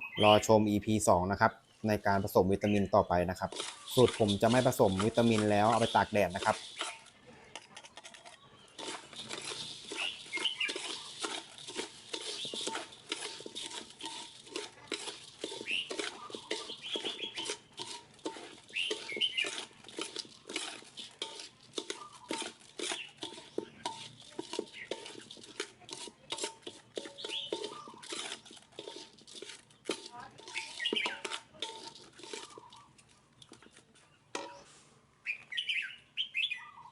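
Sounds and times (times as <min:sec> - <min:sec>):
hands mixing food in a bowl: 0:00.0 - 0:01.2, 0:01.9 - 0:35.8.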